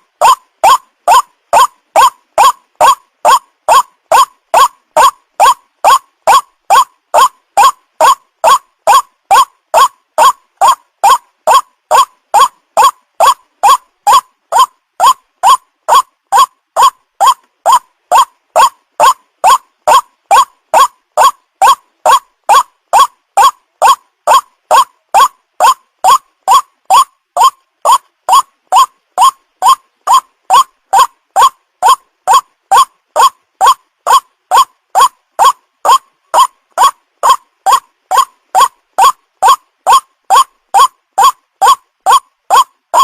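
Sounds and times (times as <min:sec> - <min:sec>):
young waterhen calling: 0:00.0 - 0:43.0.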